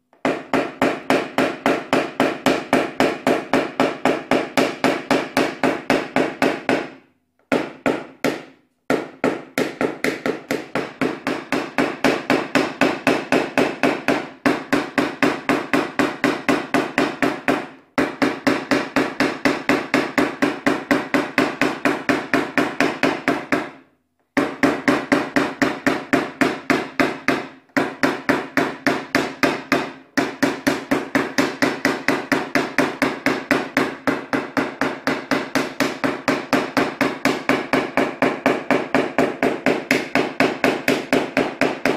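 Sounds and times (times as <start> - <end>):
hammer tapping punch on sheet metal: 0.0 - 41.9.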